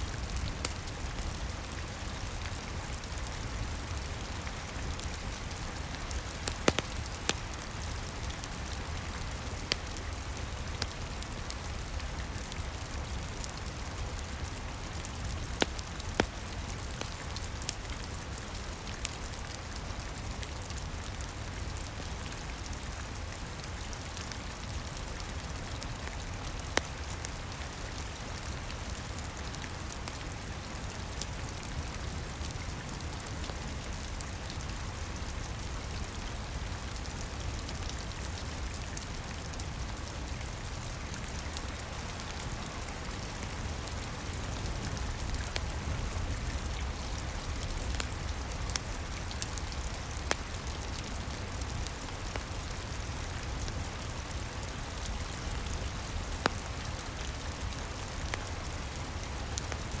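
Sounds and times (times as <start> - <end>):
steady rain: 0.0 - 60.0
wood fire crackling: 0.0 - 60.0.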